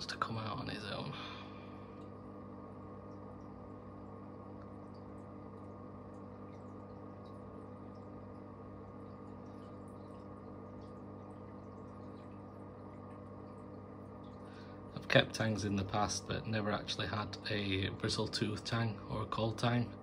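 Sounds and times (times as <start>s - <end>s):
aquarium pumps humming: 0.0s - 20.0s
faint water ticks: 0.0s - 20.0s.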